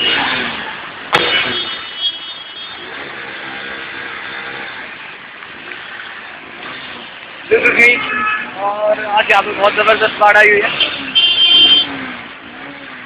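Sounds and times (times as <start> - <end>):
vehicles driving through floodwater: 0.0 - 13.0.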